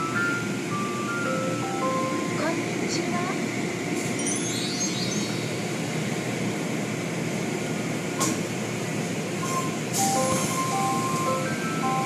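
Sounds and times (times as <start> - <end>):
car wash water and machinery: 0.0 - 12.0.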